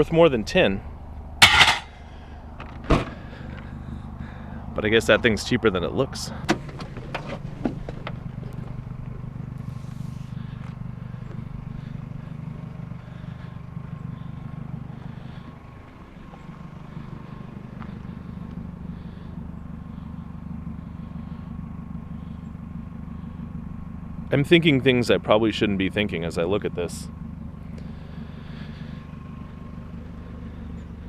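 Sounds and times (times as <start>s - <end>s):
car engine humming: 0.0s - 31.0s.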